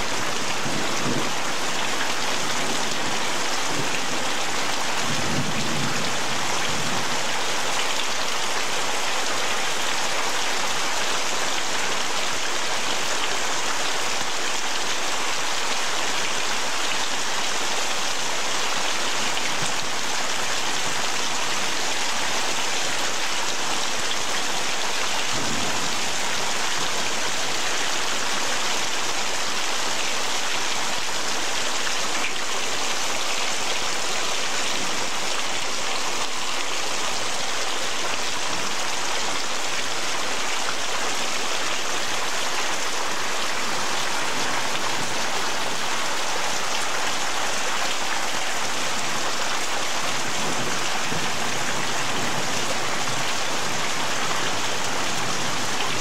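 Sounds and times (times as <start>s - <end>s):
heavy rain splashing on pavement: 0.0s - 56.0s.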